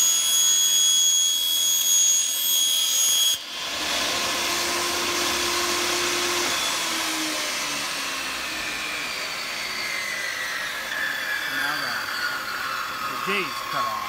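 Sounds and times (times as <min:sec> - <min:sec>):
table saw blade cutting vinyl: 0:00.0 - 0:14.0
table saw motor running: 0:00.0 - 0:14.0.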